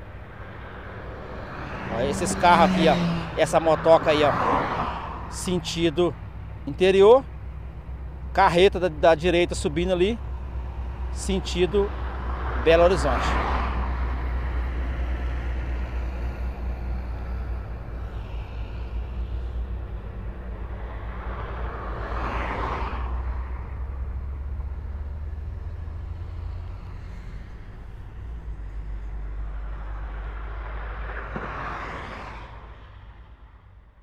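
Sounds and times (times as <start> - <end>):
low traffic rumble: 0.0 - 34.0
vehicles passing: 0.0 - 34.0.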